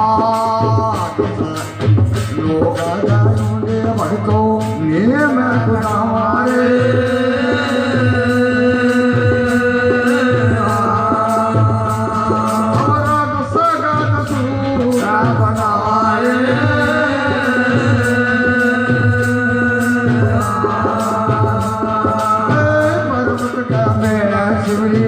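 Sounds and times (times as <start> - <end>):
person singing: 0.0 - 25.0
steady percussion beat: 0.0 - 25.0.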